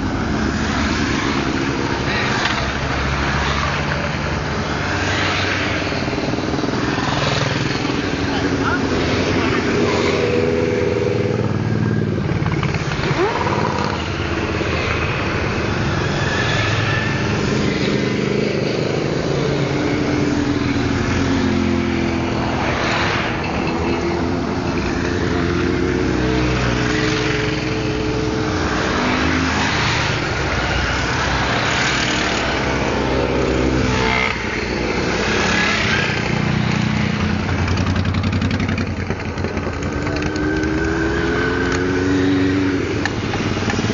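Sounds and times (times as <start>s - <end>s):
motorcycles revving past: 0.0s - 43.9s.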